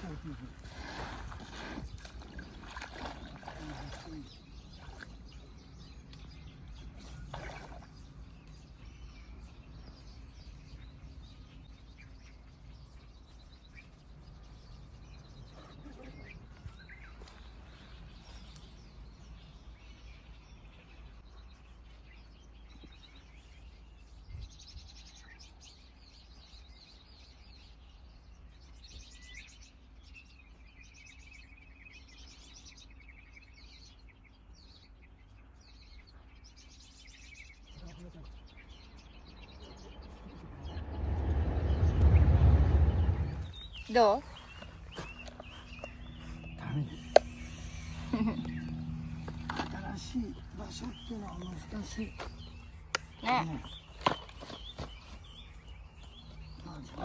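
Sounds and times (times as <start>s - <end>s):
low outdoor background noise: 0.0s - 57.0s
small birds chirping: 0.0s - 57.0s.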